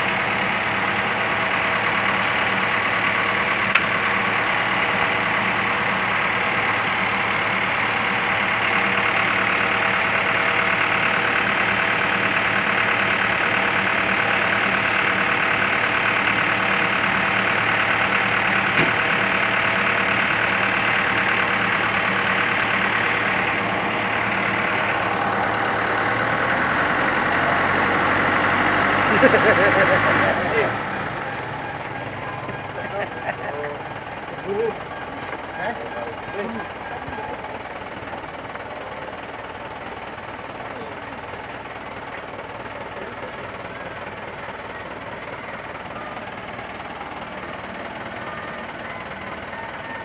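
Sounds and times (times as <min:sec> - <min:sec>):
bus engine idling: 0:00.0 - 0:50.0.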